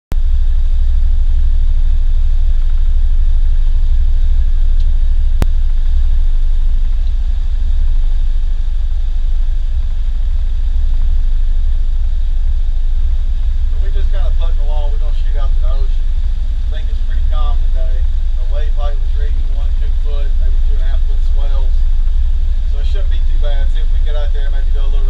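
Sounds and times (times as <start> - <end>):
boat engine low drone: 0.2 - 25.0.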